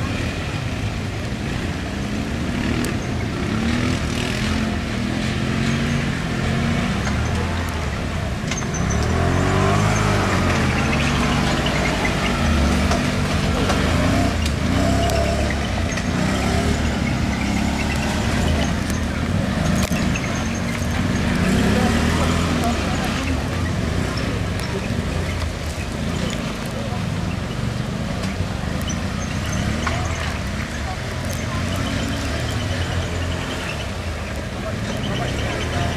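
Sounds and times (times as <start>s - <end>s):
quad bike engine revving: 0.0s - 35.9s.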